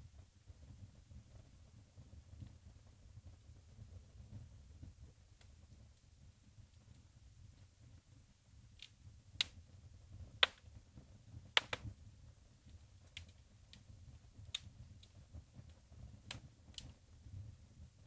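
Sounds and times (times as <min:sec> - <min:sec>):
low rumble of flames: 0:00.0 - 0:18.0
burning logs popping: 0:00.1 - 0:18.0.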